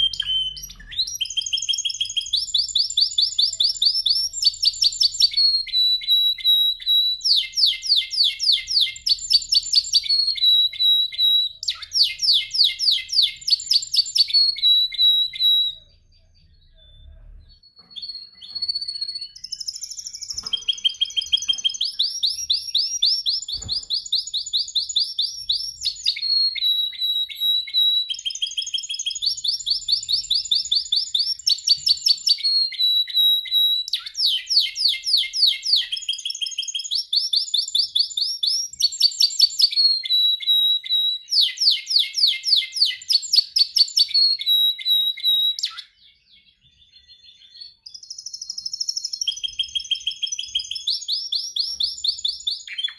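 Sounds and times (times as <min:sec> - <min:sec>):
canary singing rapid trills: 0:00.0 - 0:52.9.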